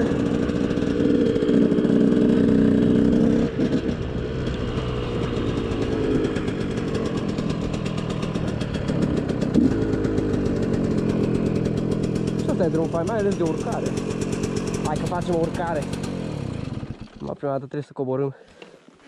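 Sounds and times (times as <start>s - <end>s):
two-stroke motorcycle engine: 0.0s - 17.5s.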